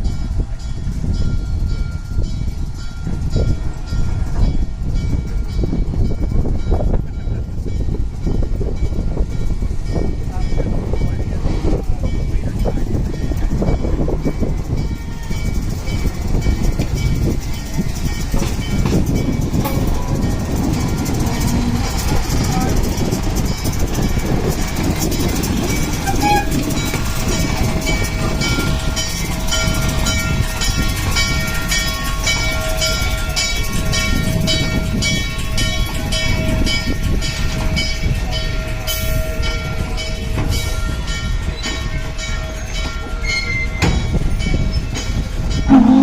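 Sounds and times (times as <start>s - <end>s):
train rumbling on track: 0.0s - 46.0s
wheels clicking on rails: 0.1s - 46.0s.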